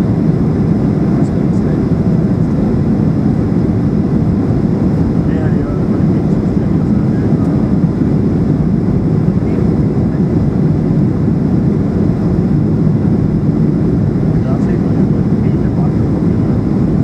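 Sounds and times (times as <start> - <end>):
airliner cabin engine rumble: 0.0 - 17.0
rushing airflow: 0.0 - 17.0.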